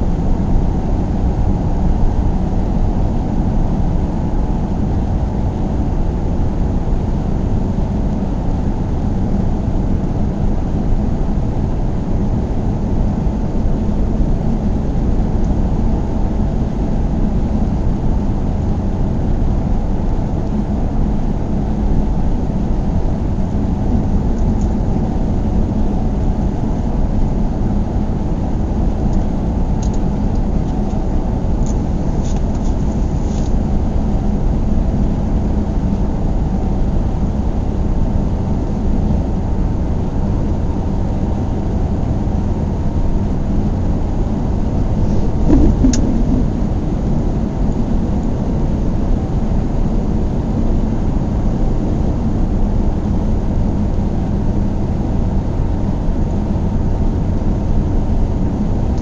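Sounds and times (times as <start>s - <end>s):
car road and engine noise: 0.0s - 55.3s.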